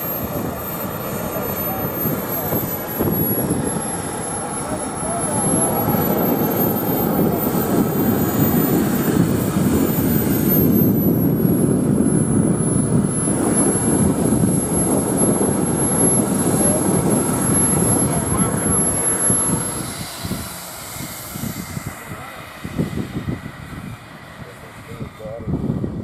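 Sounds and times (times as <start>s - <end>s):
model jet turbine roar and whine: 0.0s - 26.0s.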